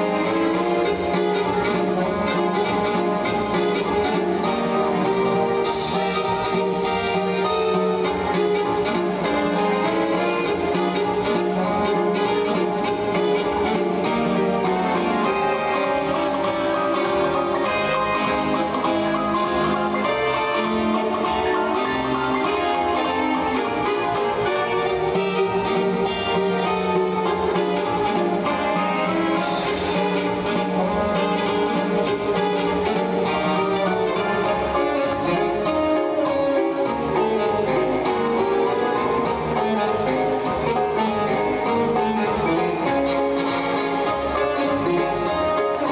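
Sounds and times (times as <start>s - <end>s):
ballroom dance music with guitar: 0.0s - 45.9s.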